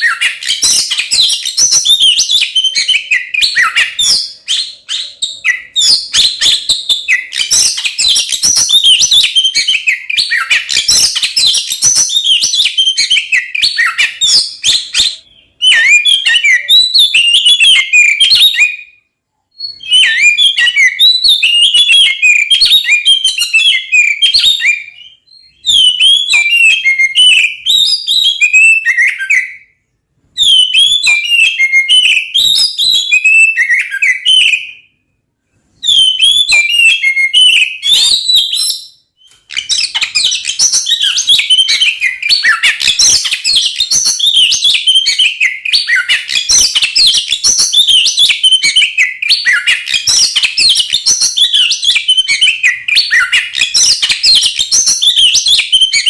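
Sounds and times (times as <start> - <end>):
bird song of whistles and clicks: 0.0 - 35.0, 35.8 - 56.0.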